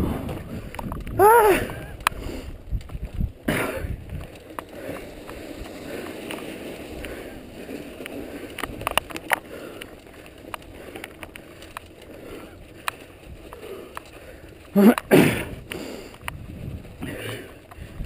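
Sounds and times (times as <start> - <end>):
bike clicking and rattling: 0.0 - 18.0
tyres on gravel and snow: 0.0 - 18.0.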